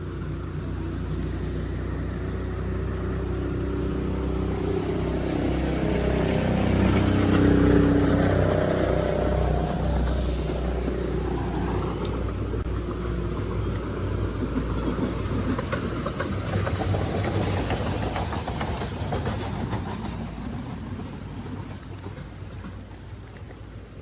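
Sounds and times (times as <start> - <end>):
train rumbling: 0.0 - 24.0
wheels clacking on rails: 0.0 - 24.0.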